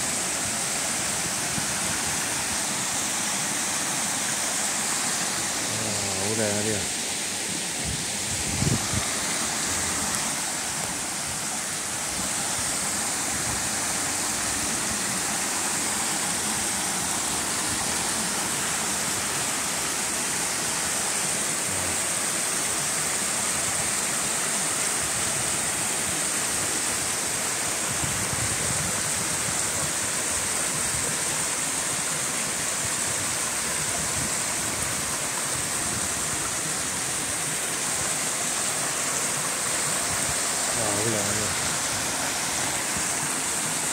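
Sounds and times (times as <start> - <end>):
waterfalls cascading into rock pools: 0.0 - 43.9.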